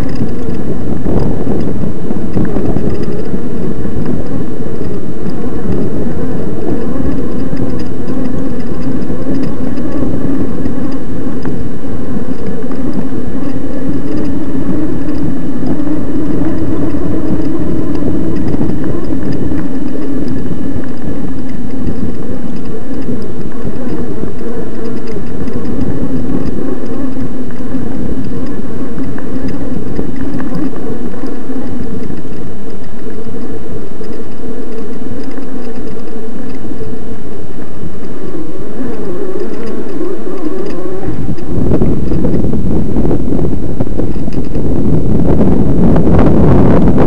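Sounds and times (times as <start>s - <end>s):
bike rumbling over rough ground: 0.0s - 47.0s
electric motor hum: 0.0s - 47.0s.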